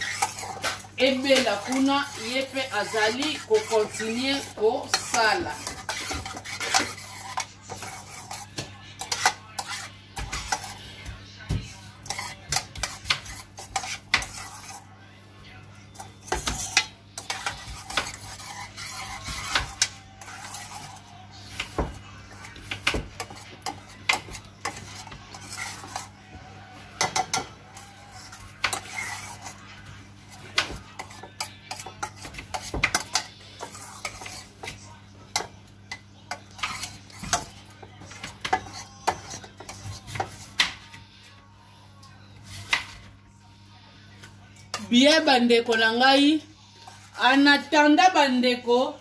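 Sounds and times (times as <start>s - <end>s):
metal spoon scraping saucepan: 0.0s - 15.0s, 15.8s - 26.2s, 26.8s - 40.6s, 46.7s - 48.2s.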